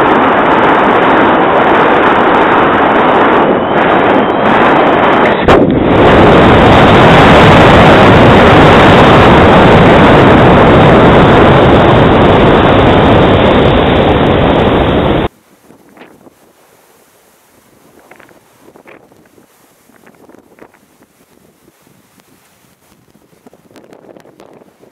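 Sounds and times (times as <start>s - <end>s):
wind rushing over microphone: 0.0s - 24.9s.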